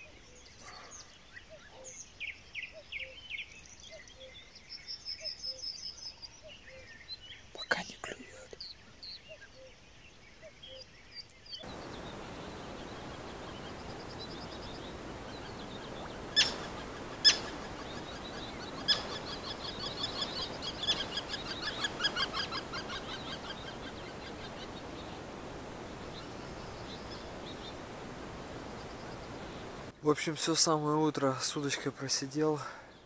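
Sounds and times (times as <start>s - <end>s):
background hiss: 0.0s - 33.0s
bird chirping: 0.0s - 33.0s.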